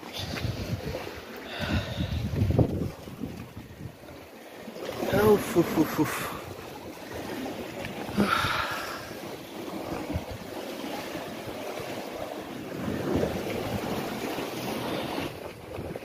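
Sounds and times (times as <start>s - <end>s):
wind buffeting microphone: 0.0s - 4.2s, 5.0s - 16.0s
waves breaking on rocky shore: 0.0s - 16.0s.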